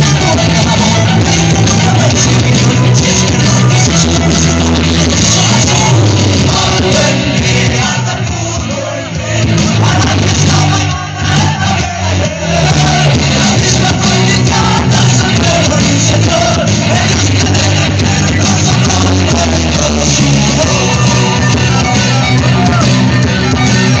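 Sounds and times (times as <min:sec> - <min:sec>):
loud dance music with heavy bass: 0:00.0 - 0:24.0.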